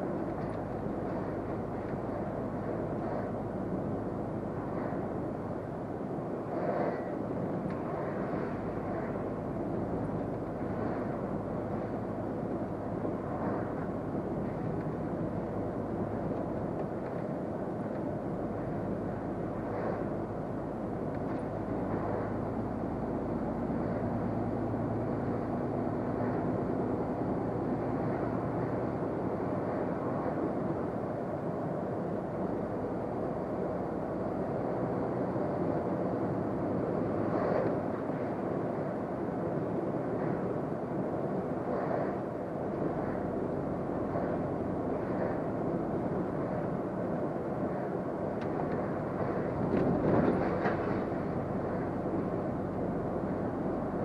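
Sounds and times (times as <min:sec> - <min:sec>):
faint engine hum: 0:00.0 - 0:54.0
truck engine and road rumble: 0:00.0 - 0:54.0.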